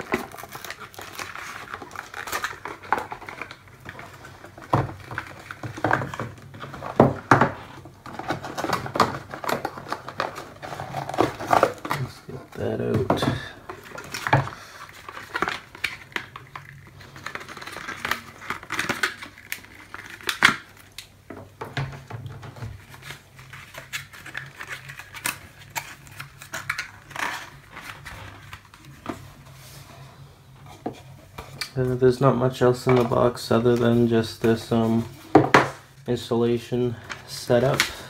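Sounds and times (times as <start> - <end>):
packaging rustling: 0.0 - 38.0.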